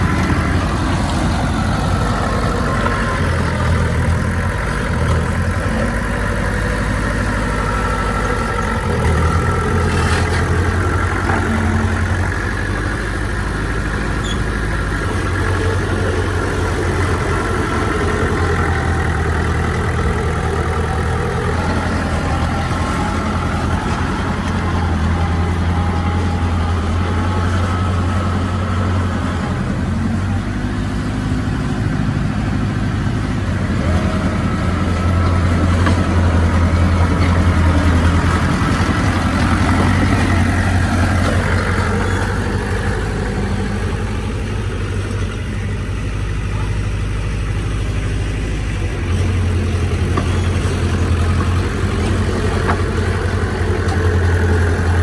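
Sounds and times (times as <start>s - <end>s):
heavy diesel machinery humming: 0.0s - 55.0s.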